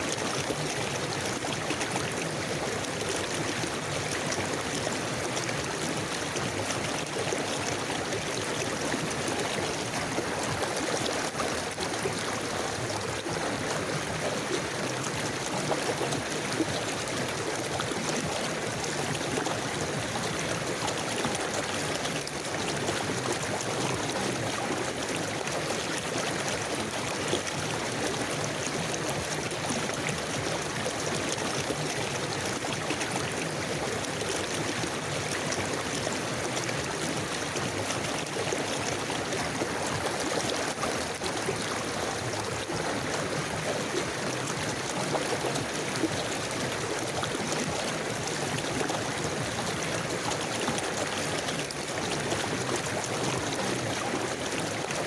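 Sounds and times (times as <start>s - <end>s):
river water rushing and gurgling: 0.0s - 55.0s.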